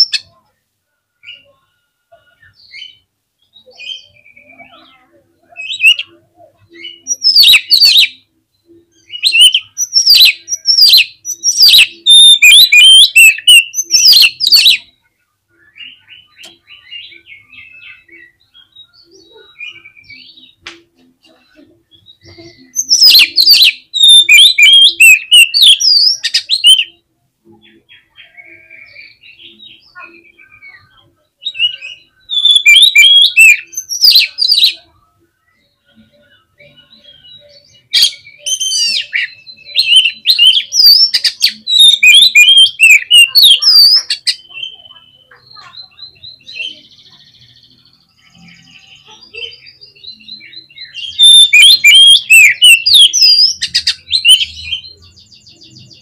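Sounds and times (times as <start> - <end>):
bird singing whistles and chatters: 1.2 - 27.0, 27.6 - 56.0.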